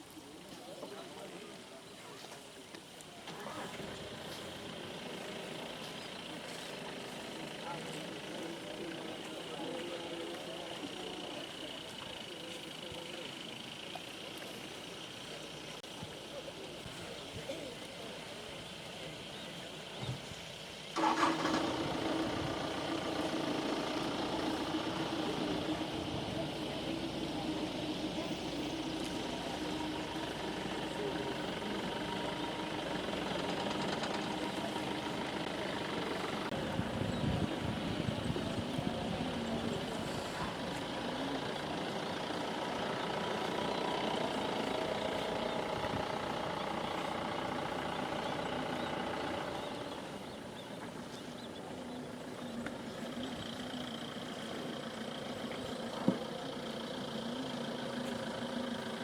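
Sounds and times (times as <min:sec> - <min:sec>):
faint voices: 0:00.0 - 0:59.0
motor engine idling: 0:02.9 - 0:59.0.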